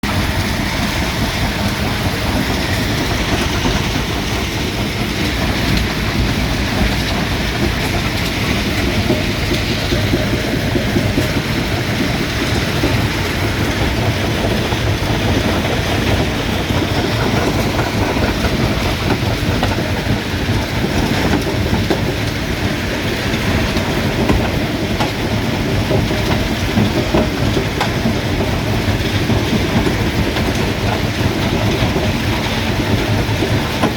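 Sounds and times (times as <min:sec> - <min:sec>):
stone crusher rumbling: 0:00.0 - 0:33.9.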